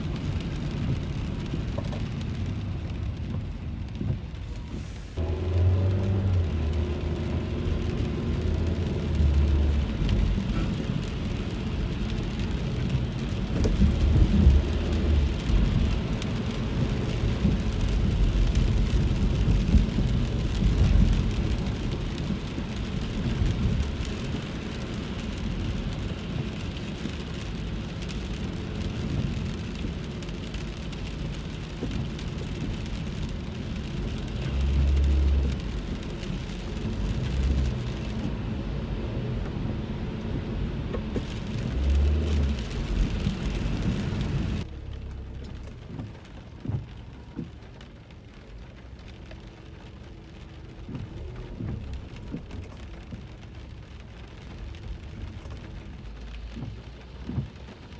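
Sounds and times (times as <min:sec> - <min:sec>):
car rumble: 0:00.0 - 0:57.9
rain hissing on a car: 0:00.0 - 0:57.9
tyres on wet road: 0:00.0 - 0:57.9.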